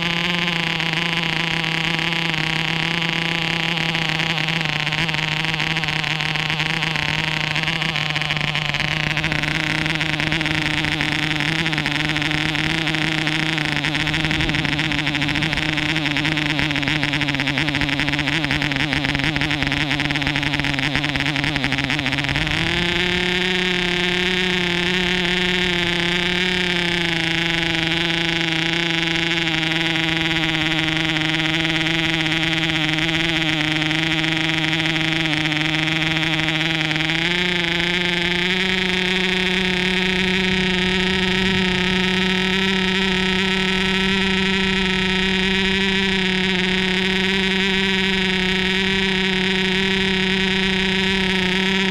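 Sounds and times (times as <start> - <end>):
model airplane engine buzzing: 0.0 - 51.9.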